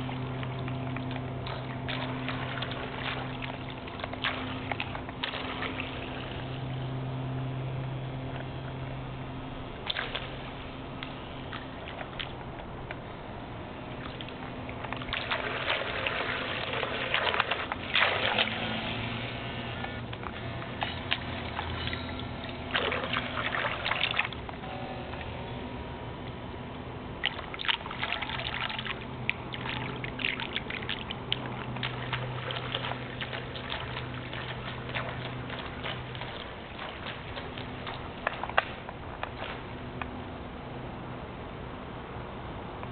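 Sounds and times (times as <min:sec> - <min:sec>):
water splashing and trickling: 0:00.0 - 0:09.0, 0:09.7 - 0:24.6, 0:27.2 - 0:40.2
low steady hum: 0:00.0 - 0:42.9.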